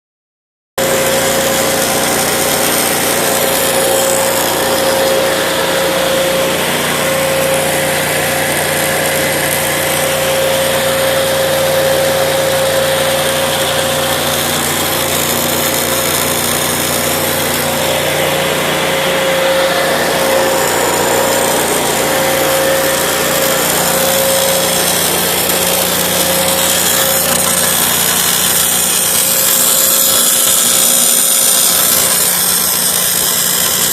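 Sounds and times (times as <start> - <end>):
motor whining and humming: 0.8 - 33.9.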